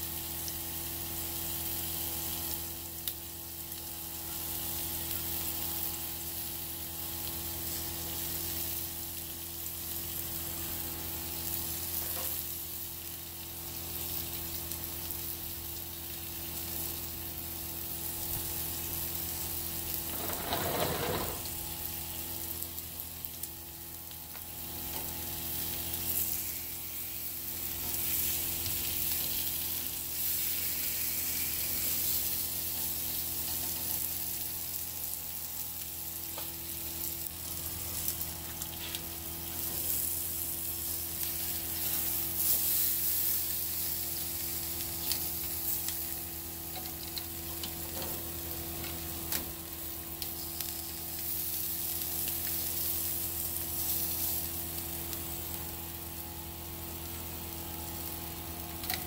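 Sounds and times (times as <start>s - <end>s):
chicken sizzling on grill: 0.0s - 59.0s.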